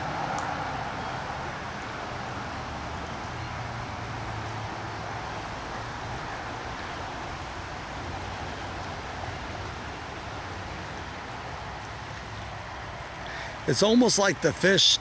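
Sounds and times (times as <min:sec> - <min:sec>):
creek rushing: 0:00.0 - 0:15.0.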